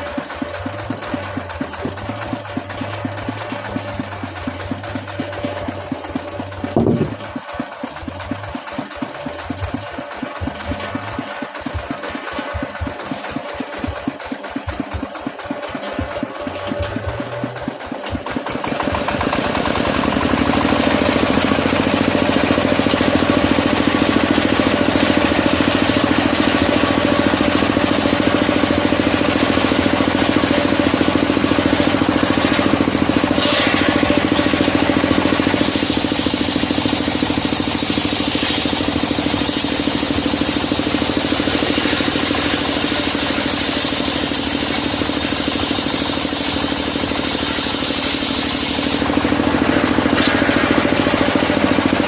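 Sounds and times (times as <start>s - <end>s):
circular sawmill engine running: 0.0s - 52.0s.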